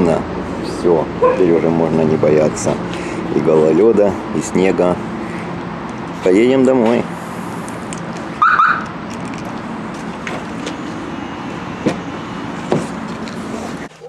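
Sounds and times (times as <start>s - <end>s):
steady background noise: 0.0s - 13.9s.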